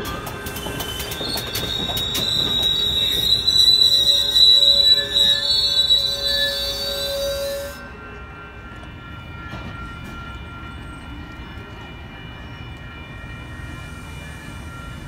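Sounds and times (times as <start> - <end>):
train rolling past rumbling: 0.0 - 15.0.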